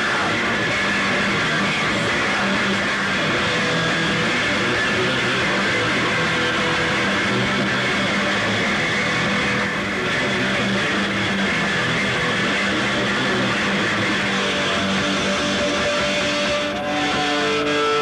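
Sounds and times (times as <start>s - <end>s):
loud distorted electric guitar: 0.0s - 18.0s.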